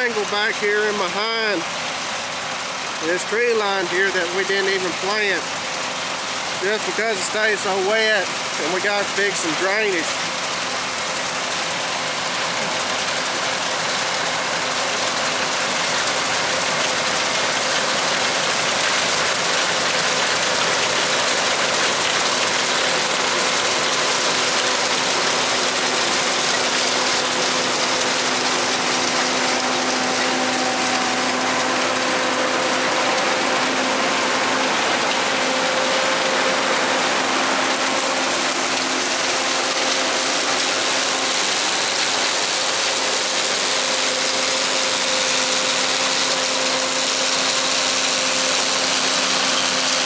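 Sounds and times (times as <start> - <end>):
combine harvester droning: 0.0 - 50.0.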